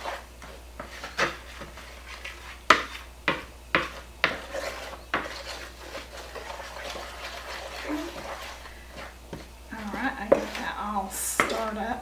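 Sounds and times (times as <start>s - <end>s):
wooden spoon scraping a bowl: 0.0s - 12.0s.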